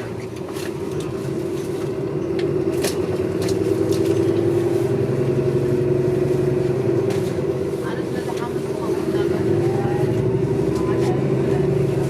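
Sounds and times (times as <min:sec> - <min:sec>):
bus engine whine and drone: 0:00.0 - 0:12.0
road noise: 0:00.0 - 0:12.0.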